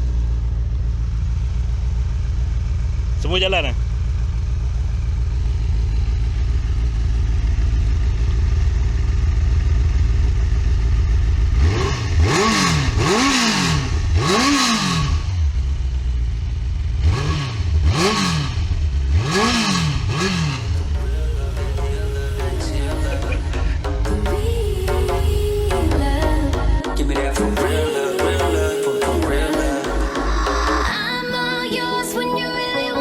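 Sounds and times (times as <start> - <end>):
motorcycle engine idling and revving: 0.0 - 31.6.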